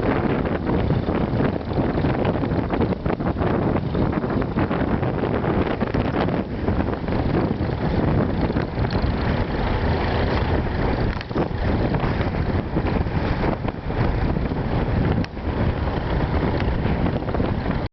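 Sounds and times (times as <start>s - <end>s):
tractor engines running under load: 0.0s - 17.9s
wind buffeting microphone: 0.0s - 17.9s.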